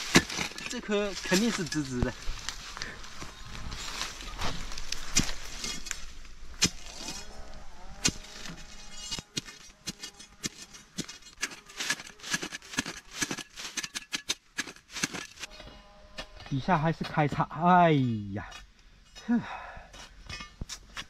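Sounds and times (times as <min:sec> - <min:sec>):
spade digging into soil: 0:00.0 - 0:02.5, 0:03.7 - 0:21.0.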